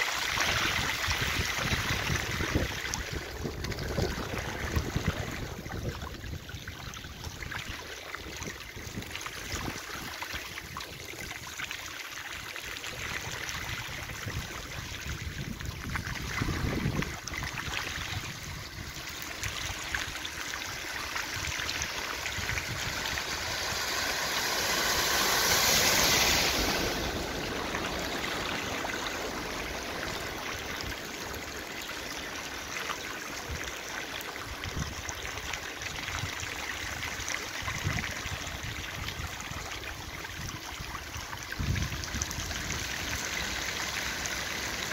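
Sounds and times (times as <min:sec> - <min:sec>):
car tyres splashing through water: 0:00.0 - 0:44.9
floodwater rushing: 0:00.0 - 0:44.9.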